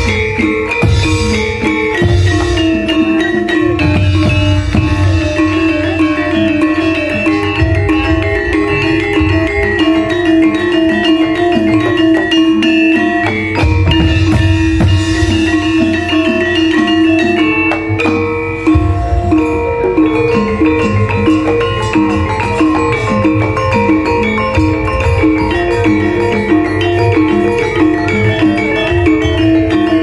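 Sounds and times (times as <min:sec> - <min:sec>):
drum beats: 0:00.0 - 0:30.0
metallophones and gongs: 0:00.0 - 0:30.0.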